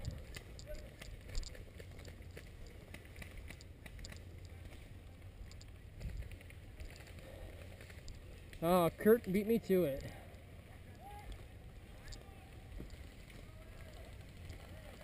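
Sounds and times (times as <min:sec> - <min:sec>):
small crackles and clicks: 0:00.0 - 0:15.0.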